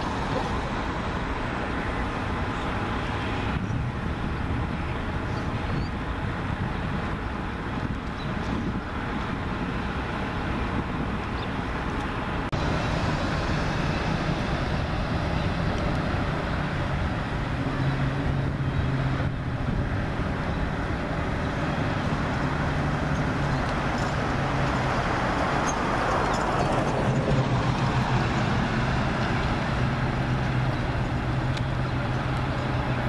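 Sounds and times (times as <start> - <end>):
outdoor rumble and hiss: 0.0 - 33.0.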